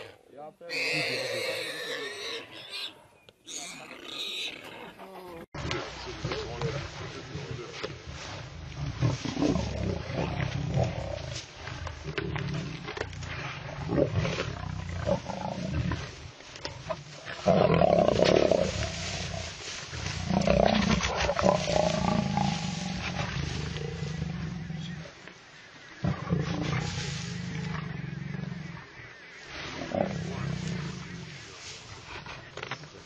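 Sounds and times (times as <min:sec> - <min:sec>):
lions growling and roaring: 0:03.8 - 0:25.2, 0:25.8 - 0:29.0, 0:29.6 - 0:33.0.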